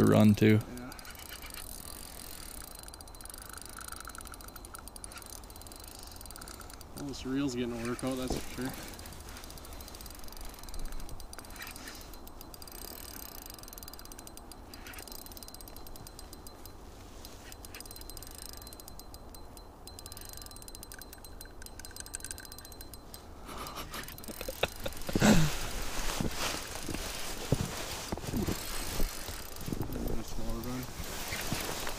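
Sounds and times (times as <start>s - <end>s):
fishing reel ticking: 0.0s - 31.9s.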